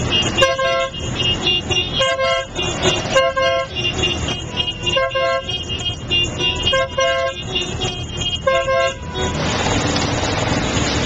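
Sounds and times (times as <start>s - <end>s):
vehicle horns tooting: 0.0s - 9.9s
city traffic: 0.0s - 11.0s
motorcycle engines rumbling: 0.0s - 11.0s.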